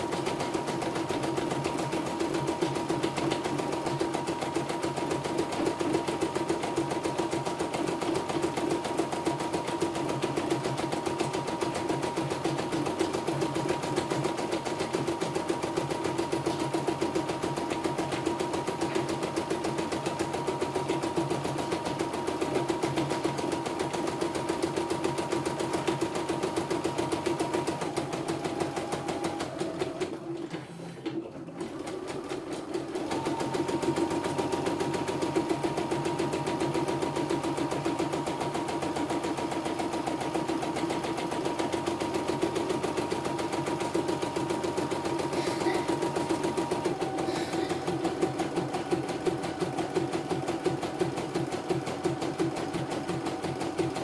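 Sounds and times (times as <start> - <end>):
embroidery machine stitching: 0.0 - 54.0.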